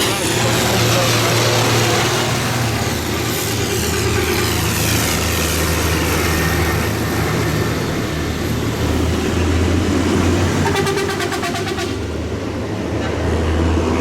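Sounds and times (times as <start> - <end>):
tractor engines driving past: 0.0 - 14.0.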